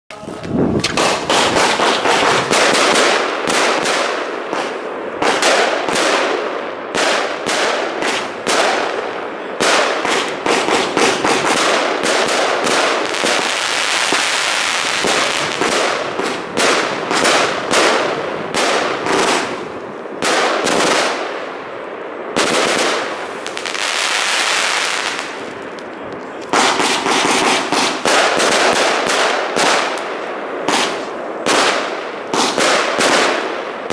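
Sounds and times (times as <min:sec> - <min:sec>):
fireworks crackling: 0:00.1 - 0:33.9
fireworks shots and bangs: 0:00.7 - 0:33.9.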